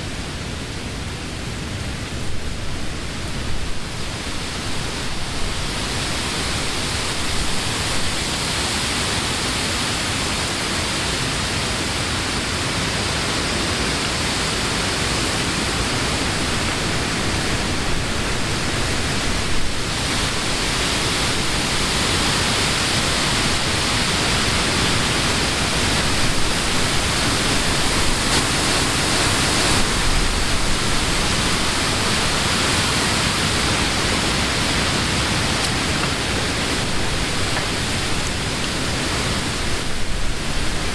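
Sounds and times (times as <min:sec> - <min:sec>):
wind through tree leaves: 0:00.0 - 0:40.9.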